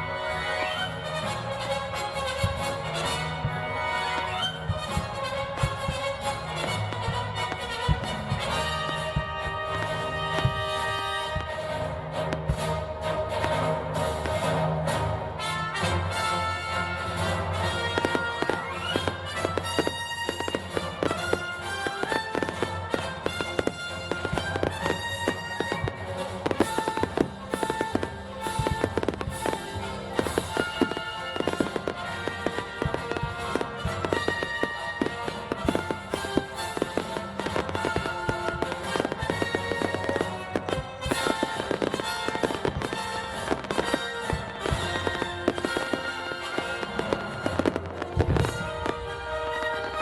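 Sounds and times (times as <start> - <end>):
fireworks bangs and pops: 0.0 - 14.6, 15.4 - 50.0
music with held notes: 0.0 - 50.0.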